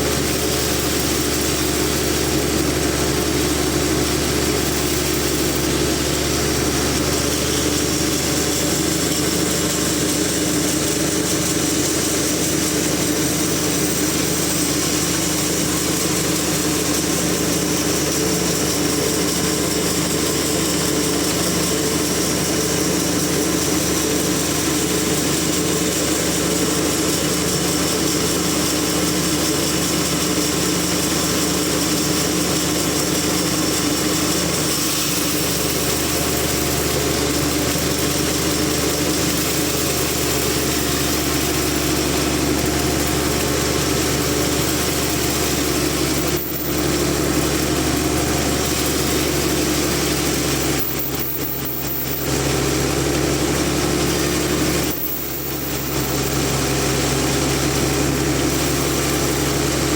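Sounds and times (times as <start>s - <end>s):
sawmill machine drone: 0.0s - 59.9s.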